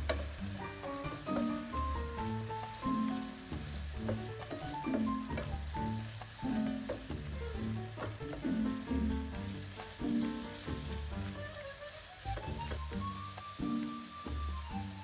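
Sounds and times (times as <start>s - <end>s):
background music with bass notes: 0.0s - 15.0s
vegetables sizzling in oil: 0.0s - 15.0s
wooden spatula stirring: 0.0s - 15.0s.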